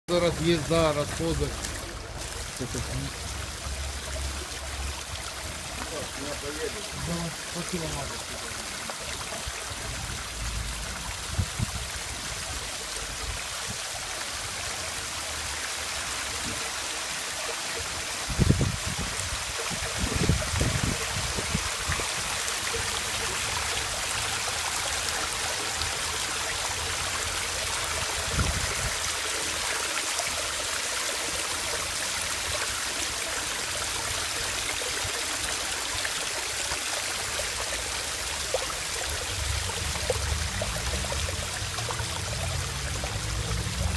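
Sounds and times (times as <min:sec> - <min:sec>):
waterfall splashing: 0:00.1 - 0:43.9.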